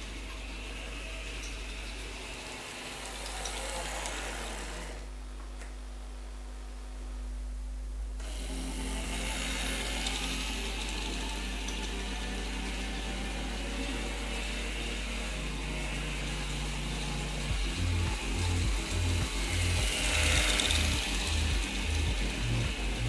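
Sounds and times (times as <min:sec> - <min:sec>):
wheels rattling on track: 0:00.0 - 0:05.0, 0:09.0 - 0:23.0
small electric motor whirring: 0:00.0 - 0:05.1, 0:08.2 - 0:23.0.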